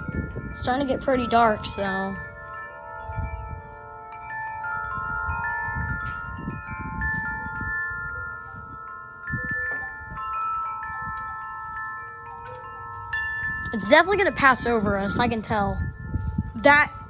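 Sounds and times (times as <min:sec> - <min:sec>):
wind chimes ringing: 0:00.0 - 0:17.0
wind rumbling on microphone: 0:00.0 - 0:17.0.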